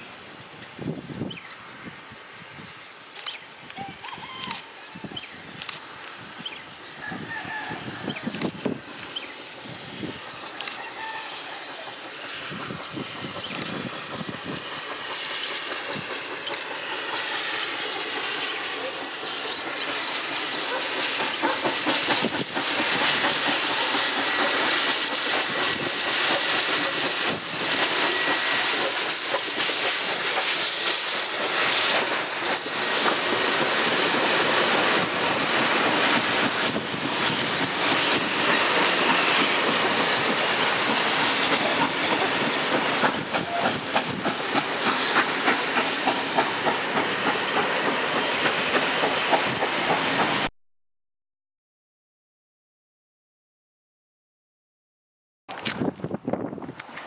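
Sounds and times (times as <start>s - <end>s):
loud hiss of steam: 0.0s - 50.5s, 56.5s - 57.0s
steam locomotive passing: 0.0s - 50.5s, 55.5s - 57.0s.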